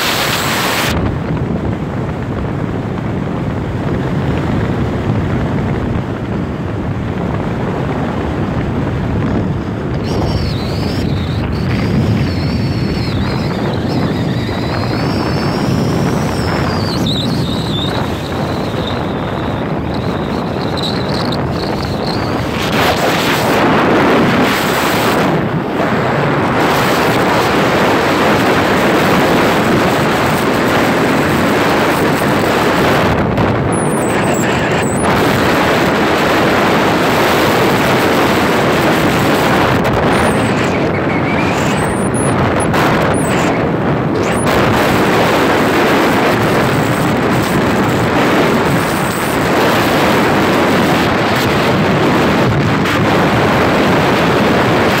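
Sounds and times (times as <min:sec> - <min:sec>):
vehicle engine and tyre noise: 0:00.0 - 0:55.0
wind buffeting microphone: 0:00.0 - 0:55.0.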